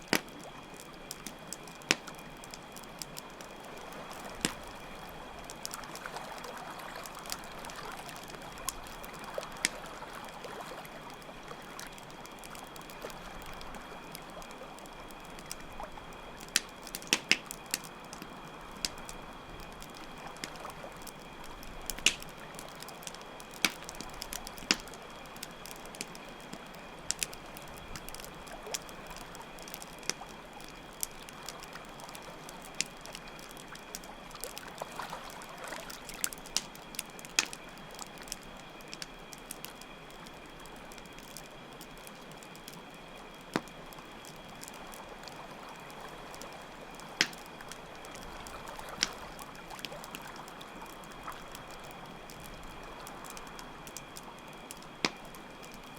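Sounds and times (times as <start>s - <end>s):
flowing water: 0.0s - 38.8s, 43.5s - 55.9s
campfire crackling and popping: 0.0s - 55.9s
crickets trilling: 0.0s - 55.9s.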